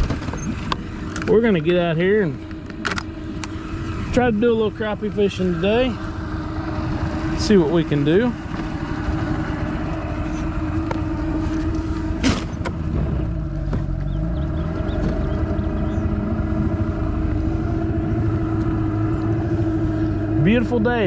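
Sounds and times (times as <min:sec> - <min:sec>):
boat motor running: 0:00.0 - 0:21.0.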